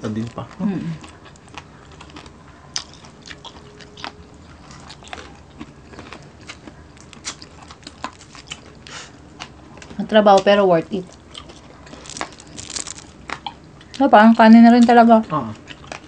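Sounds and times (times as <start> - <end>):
chewing crispy food: 0.0 - 16.0.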